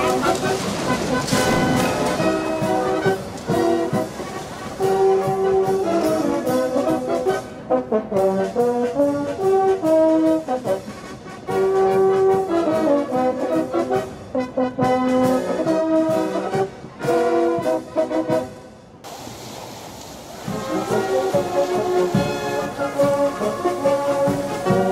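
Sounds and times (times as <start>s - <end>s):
brass-led orchestral music: 0.0s - 19.0s, 20.3s - 24.9s.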